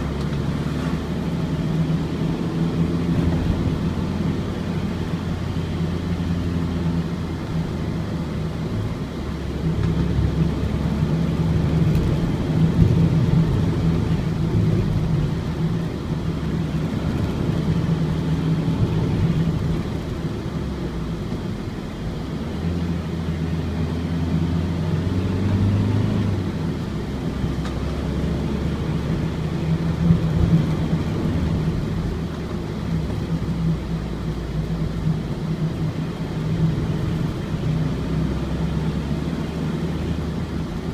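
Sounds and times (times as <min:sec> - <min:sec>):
diesel van engine running: 0:00.0 - 0:40.9
road noise: 0:00.0 - 0:40.9.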